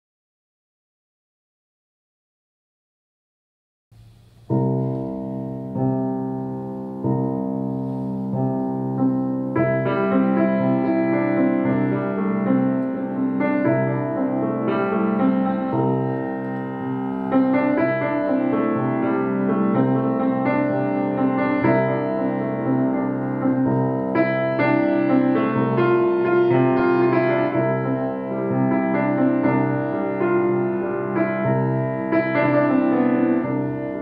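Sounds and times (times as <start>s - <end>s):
grand piano improvisation: 4.0s - 34.0s.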